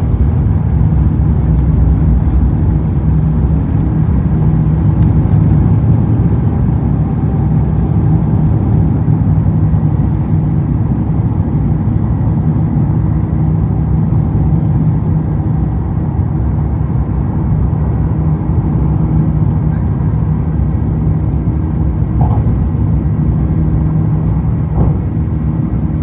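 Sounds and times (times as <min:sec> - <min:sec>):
jet engine drone in cabin: 0:00.0 - 0:26.0.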